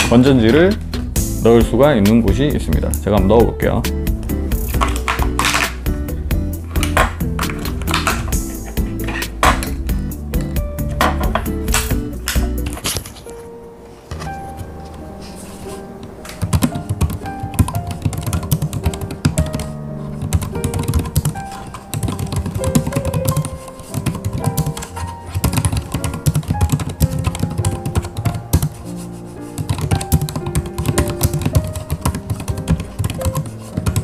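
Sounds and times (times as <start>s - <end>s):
background music: 0.0s - 34.0s.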